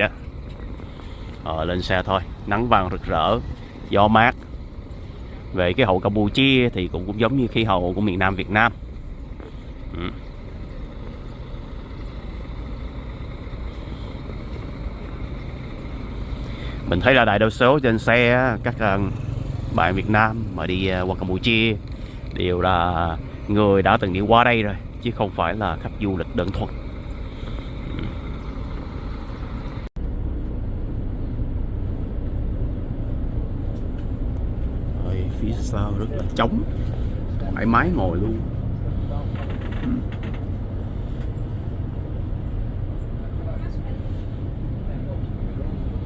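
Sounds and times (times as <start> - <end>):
bus engine rumble: 0.0 - 46.0
road noise: 0.0 - 46.0.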